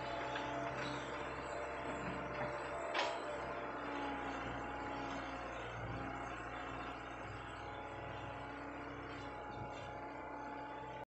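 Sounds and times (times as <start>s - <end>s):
excavator engine running: 0.0s - 11.0s.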